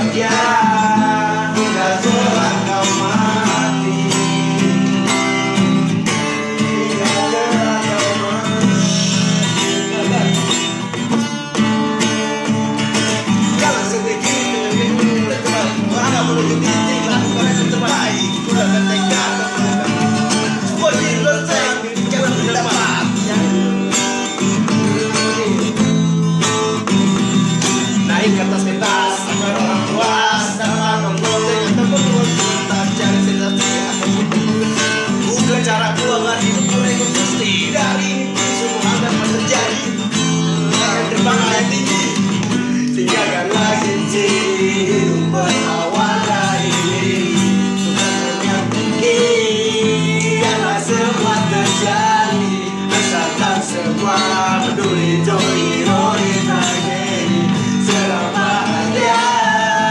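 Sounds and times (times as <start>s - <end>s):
instrumental pop music: 0.0s - 59.9s.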